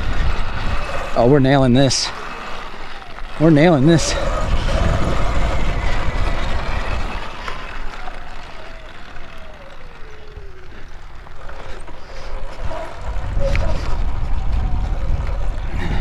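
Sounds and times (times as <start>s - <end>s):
electric motor whine: 0.0s - 16.0s
tyres on dirt: 0.0s - 16.0s
wind on microphone: 0.0s - 16.0s.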